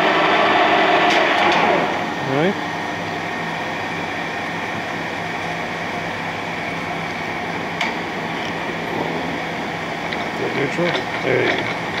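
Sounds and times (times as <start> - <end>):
lathe motor and gearbox hum: 0.0 - 12.0.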